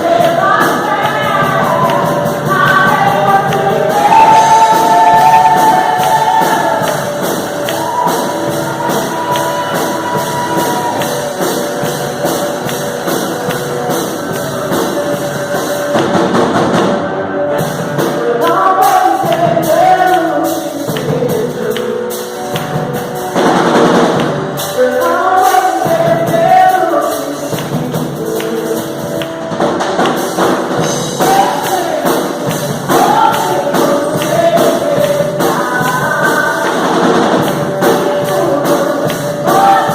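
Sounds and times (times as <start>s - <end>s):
group singing gospel: 0.0s - 15.2s, 18.0s - 29.4s, 30.1s - 39.9s
drums and percussion beat: 0.0s - 39.9s.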